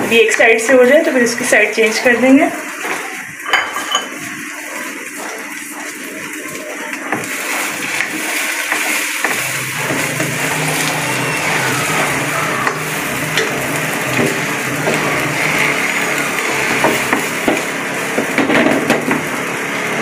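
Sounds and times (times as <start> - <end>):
egg sizzling in oil: 2.6 - 19.7.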